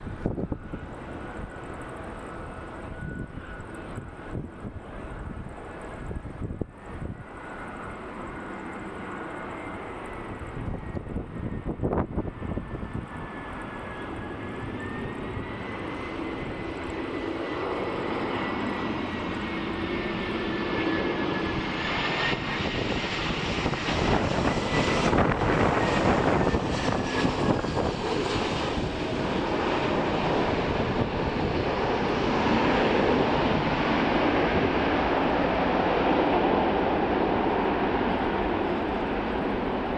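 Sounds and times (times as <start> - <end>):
jet airliner engines roaring: 0.0 - 39.9.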